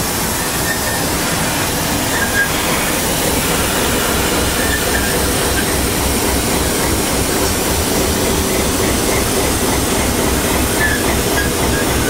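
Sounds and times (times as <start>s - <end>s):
diesel locomotive engine throbbing: 0.0s - 12.0s
steam locomotive working: 0.0s - 12.0s.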